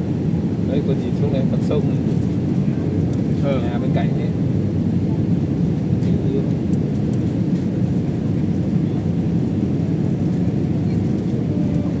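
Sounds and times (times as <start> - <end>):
airliner engines rumbling in cabin: 0.0 - 12.0.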